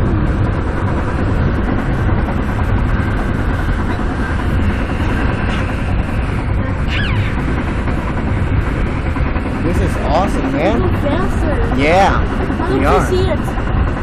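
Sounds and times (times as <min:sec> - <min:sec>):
train rumble on rails: 0:00.0 - 0:14.0.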